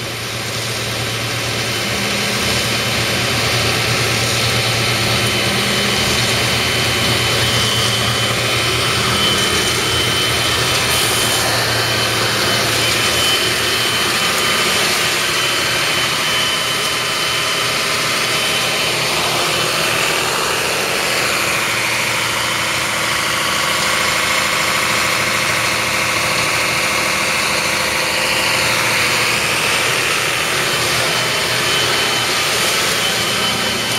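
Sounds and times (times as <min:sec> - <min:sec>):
high whine: 0:00.0 - 0:33.9
truck engine running: 0:00.0 - 0:33.9.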